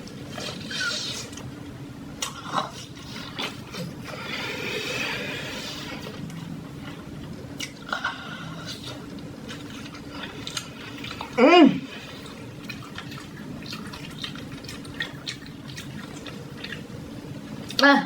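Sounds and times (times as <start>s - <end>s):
wet chewing: 0.0s - 17.8s.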